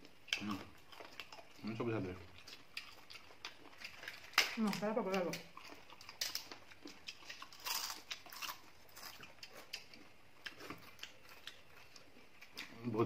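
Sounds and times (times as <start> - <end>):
chewing and crunching: 0.0 - 13.0.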